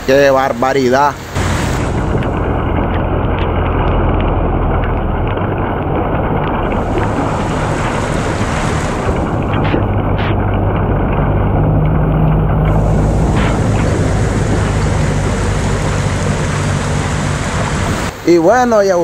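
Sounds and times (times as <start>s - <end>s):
floodwater rushing: 0.0s - 19.0s
wind buffeting microphone: 1.2s - 18.1s.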